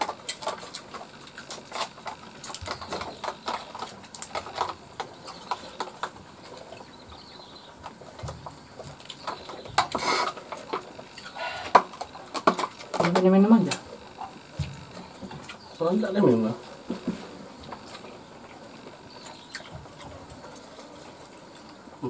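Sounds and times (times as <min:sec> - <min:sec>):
clicks and taps of eating: 0:00.0 - 0:15.7, 0:16.6 - 0:21.8
rustle: 0:00.0 - 0:22.0.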